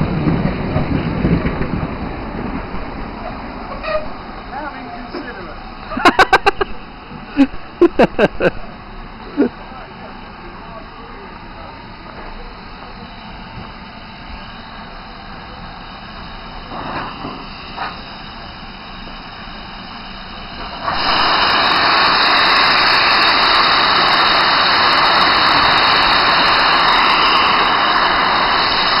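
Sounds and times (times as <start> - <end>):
locomotive blowing off steam: 0.0 - 29.0
steam locomotive hissing: 0.0 - 29.0
steam puffs: 0.0 - 29.0.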